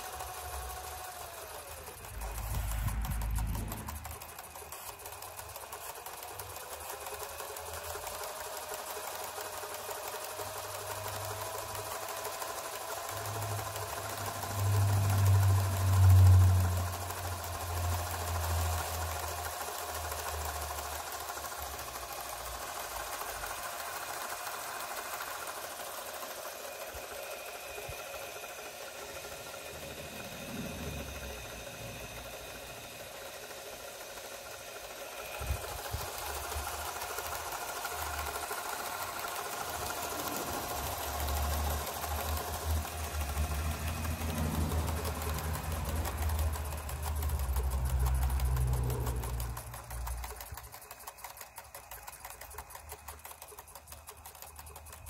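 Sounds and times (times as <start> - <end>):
electric motor whine: 0.0 - 55.0.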